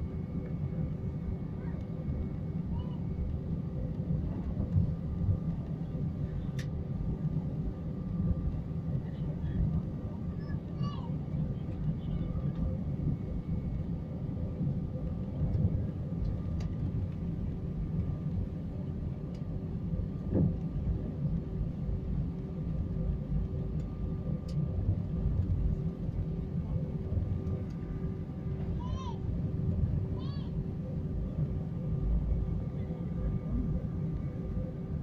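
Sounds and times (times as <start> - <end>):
aircraft cabin rumble: 0.0 - 35.0.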